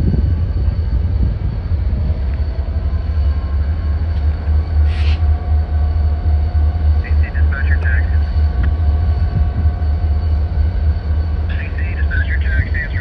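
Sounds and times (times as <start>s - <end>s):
distant diesel locomotives rumbling: 0.0s - 13.0s.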